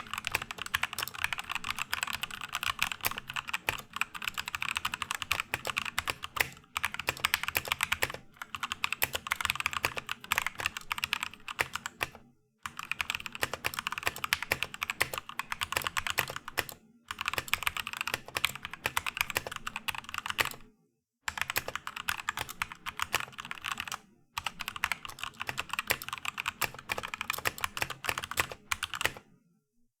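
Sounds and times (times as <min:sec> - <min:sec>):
typing on mechanical keyboard: 0:00.0 - 0:20.6, 0:21.3 - 0:29.3.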